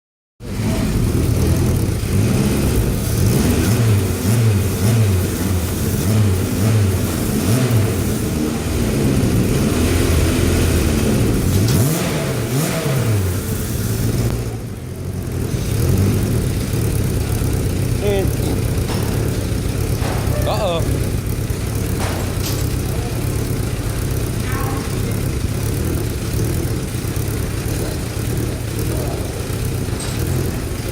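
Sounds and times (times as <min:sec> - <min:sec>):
car engine revving: 0:00.4 - 0:30.9.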